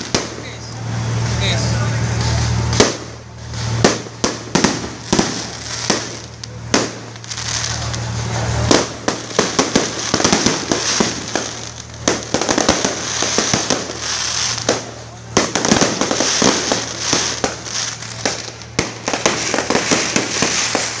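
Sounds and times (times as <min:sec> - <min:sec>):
fireworks bangs and pops: 0:00.0 - 0:21.0
fireworks crackling fizz: 0:00.0 - 0:21.0.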